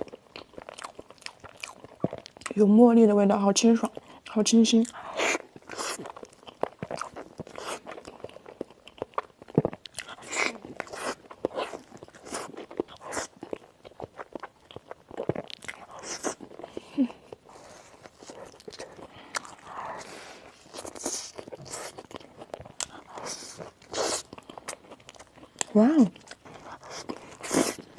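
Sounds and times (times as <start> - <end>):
crunchy bites and chewing: 0.0 - 2.6, 4.8 - 27.9.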